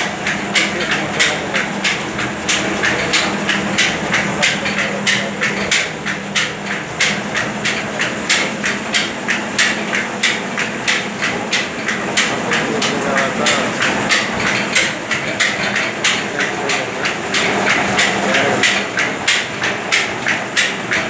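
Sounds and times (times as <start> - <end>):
flour mill running: 0.0 - 21.0
regular mechanical clack: 0.0 - 21.0.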